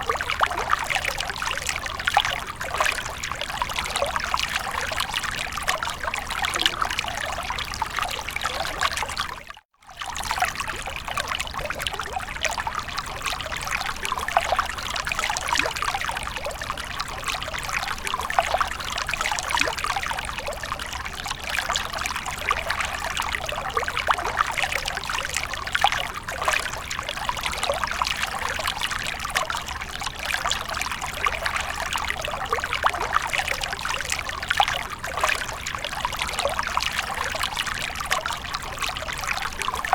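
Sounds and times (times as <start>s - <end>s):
water fountain trickling: 0.0s - 39.9s.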